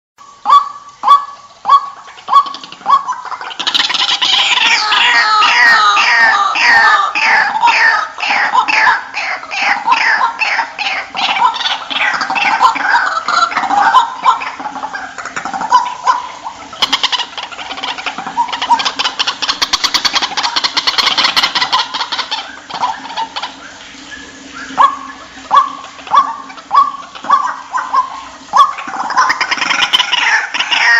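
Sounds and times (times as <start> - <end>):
waterhen rapid falling notes: 0.2 - 30.9
waterhen sharp rising calls: 0.2 - 30.9.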